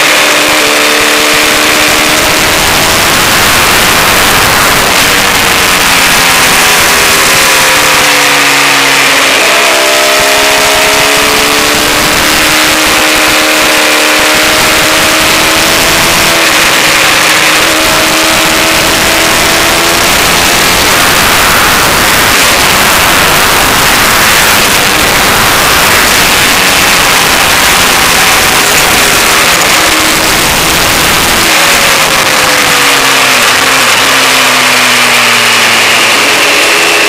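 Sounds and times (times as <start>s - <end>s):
motorcycle engine accelerating: 0.0s - 37.0s
wind rushing over microphone: 0.1s - 34.2s.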